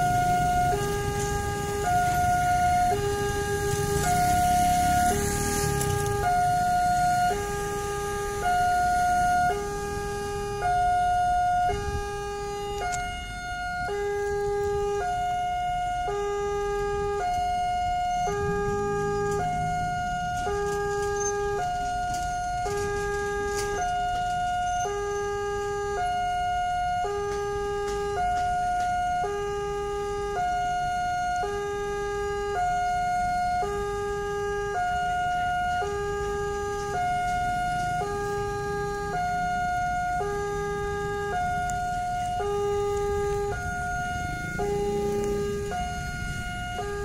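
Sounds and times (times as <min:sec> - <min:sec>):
level crossing two-tone alarm: 0:00.0 - 0:47.0.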